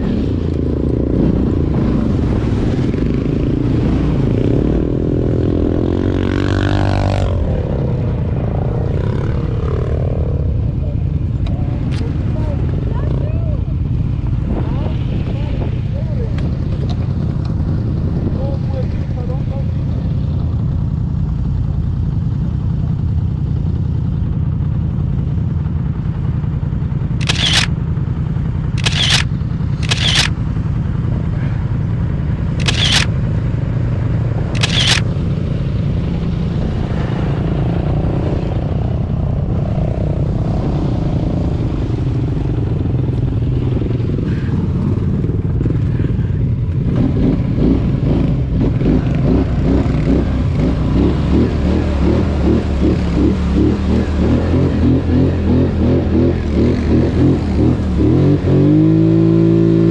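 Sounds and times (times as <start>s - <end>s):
engine low rumble: 0.0s - 59.9s.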